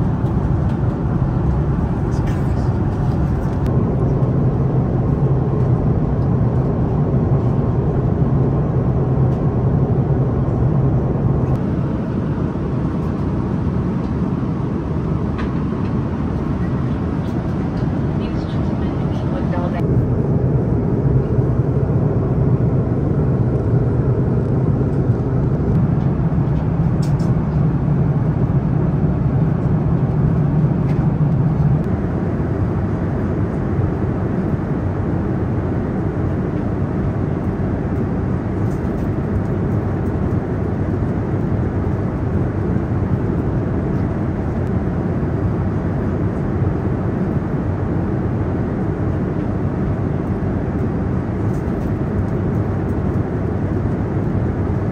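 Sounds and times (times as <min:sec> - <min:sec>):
aircraft cabin engine drone: 0:00.0 - 0:54.9.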